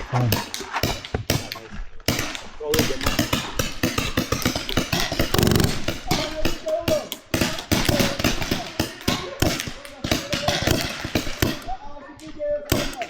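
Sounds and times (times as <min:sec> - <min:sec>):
paintball markers firing: 0:00.0 - 0:11.8, 0:12.7 - 0:13.0.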